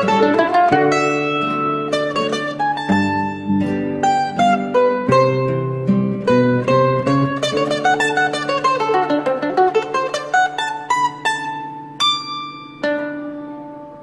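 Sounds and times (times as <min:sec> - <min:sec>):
acoustic guitar bass notes: 0:00.0 - 0:12.0
mandolin plucked notes: 0:00.0 - 0:14.0.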